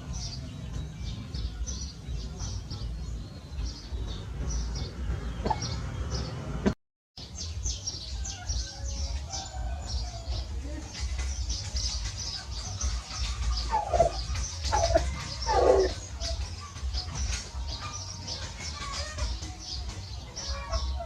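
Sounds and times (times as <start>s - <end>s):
chickens clucking: 0.0s - 6.8s, 7.4s - 21.0s
birds chirping: 0.0s - 21.0s.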